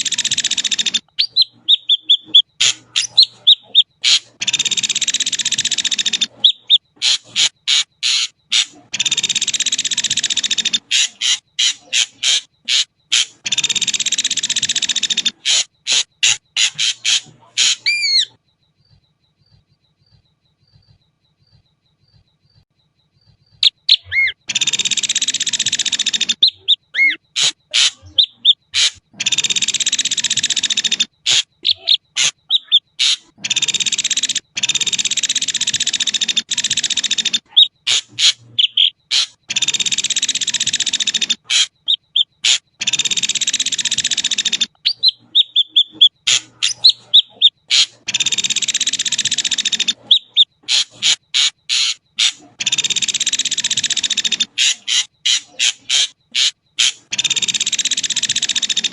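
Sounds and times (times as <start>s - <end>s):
bird whistles: 0.0s - 18.4s, 23.6s - 33.2s, 33.9s - 58.9s
bird rasping chatter: 0.0s - 22.6s, 23.2s - 58.9s.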